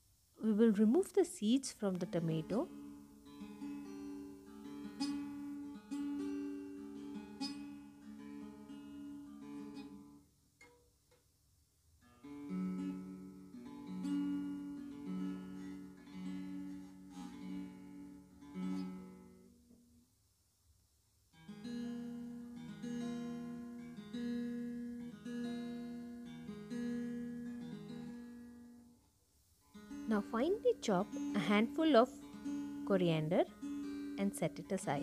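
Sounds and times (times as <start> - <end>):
plucked acoustic guitar music: 1.8 - 11.2, 12.0 - 19.9, 21.3 - 29.0, 29.7 - 35.0.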